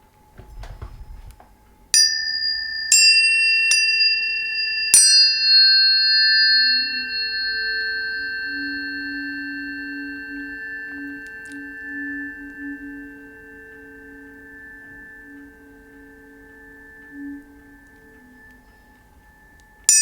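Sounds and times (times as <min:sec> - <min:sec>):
tuning forks ringing: 0:00.0 - 0:20.0
tuning fork strike clicks: 0:00.1 - 0:20.0.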